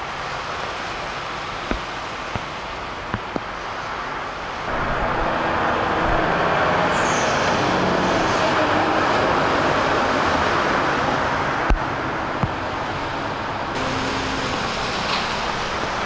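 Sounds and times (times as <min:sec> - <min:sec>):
heavy rain: 0:00.0 - 0:16.0
vehicles driving through deep water: 0:00.0 - 0:16.0
low engine hum: 0:00.6 - 0:16.0.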